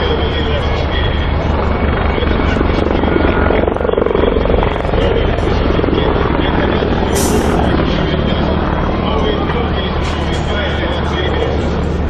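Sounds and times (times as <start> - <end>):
helicopter rotor beating: 0.0 - 12.0
helicopter turbine noise: 0.0 - 12.0.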